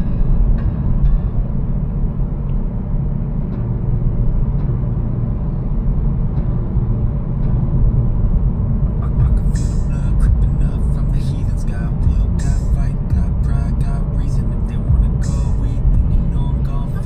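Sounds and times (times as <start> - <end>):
car road noise rumble: 0.0 - 17.0.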